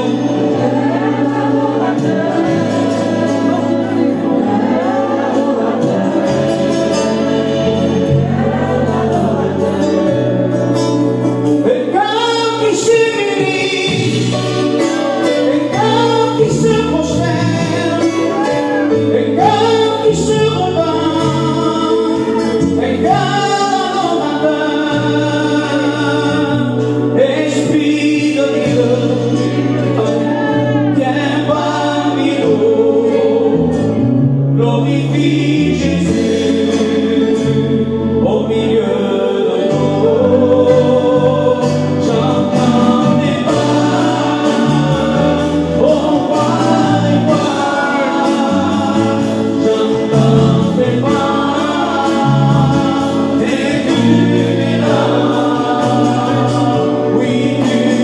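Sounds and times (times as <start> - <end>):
bass line: 0.0 - 58.0
congregation singing a hymn: 0.0 - 58.0
guitar accompaniment: 0.0 - 58.0.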